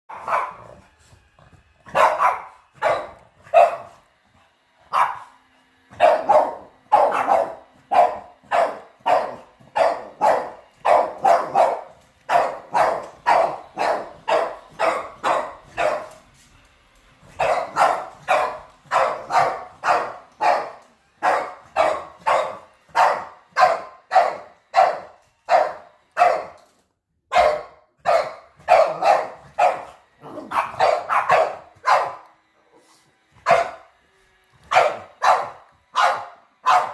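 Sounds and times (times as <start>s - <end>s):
dog barking: 0.1s - 0.9s, 1.9s - 4.0s, 4.9s - 16.2s, 17.4s - 26.6s, 27.3s - 32.3s, 33.4s - 33.9s, 34.7s - 36.9s.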